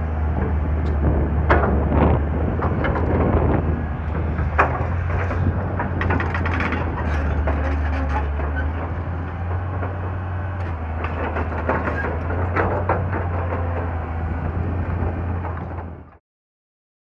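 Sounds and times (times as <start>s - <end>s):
diesel engine running: 0.0s - 16.2s
excavator bucket and tracks clanking: 0.0s - 16.2s.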